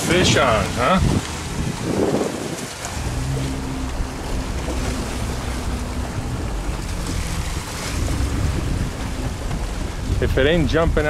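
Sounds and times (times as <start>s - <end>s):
boat engine drone: 0.0s - 11.0s
rushing water: 0.0s - 11.0s
wind buffeting microphone: 0.0s - 11.0s.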